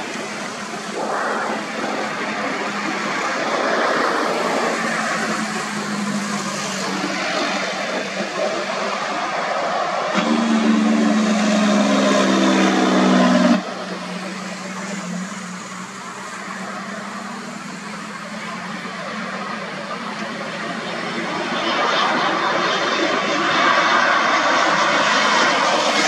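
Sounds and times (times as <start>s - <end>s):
low tonal hum: 0.0s - 21.7s
distant jet engines rushing: 0.0s - 26.0s.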